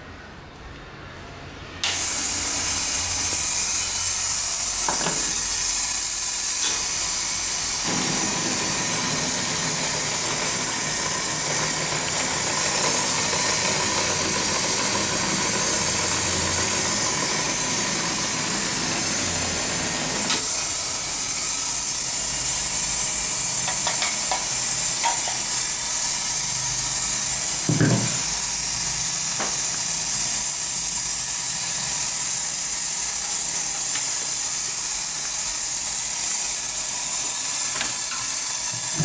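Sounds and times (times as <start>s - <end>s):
vacuum mixer hissing: 1.8s - 39.0s.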